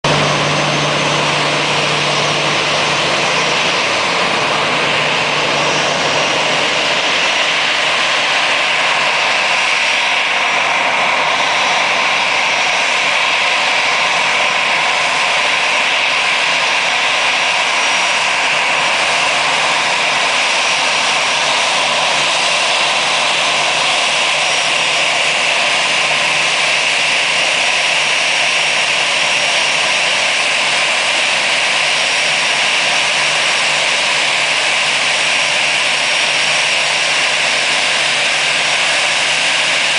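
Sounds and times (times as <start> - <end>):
high constant engine whine: 0.0 - 39.9
jet engines running: 0.0 - 39.9.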